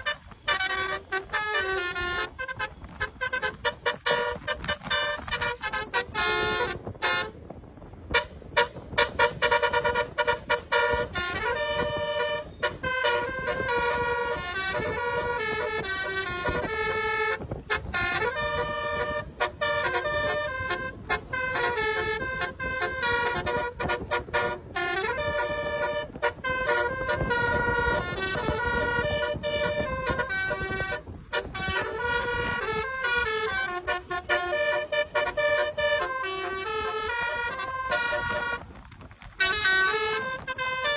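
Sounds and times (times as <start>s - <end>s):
multi-tone bus horn melody: 0.0s - 40.9s.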